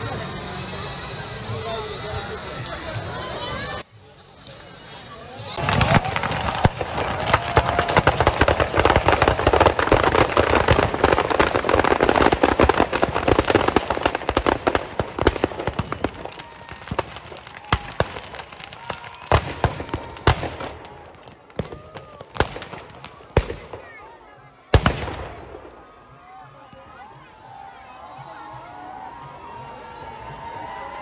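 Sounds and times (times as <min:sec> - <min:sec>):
firecrackers crackling and banging: 0:00.0 - 0:26.1.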